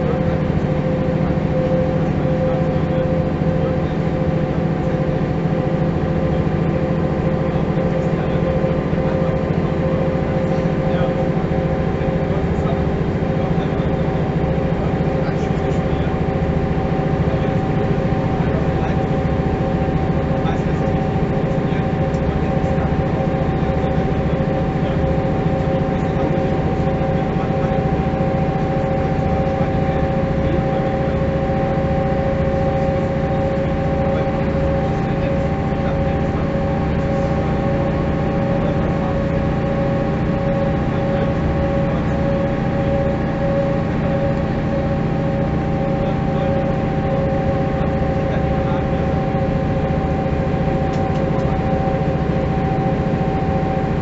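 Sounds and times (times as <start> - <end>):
bus diesel engine drone: 0.0 - 54.0
steady whining tones: 0.0 - 54.0.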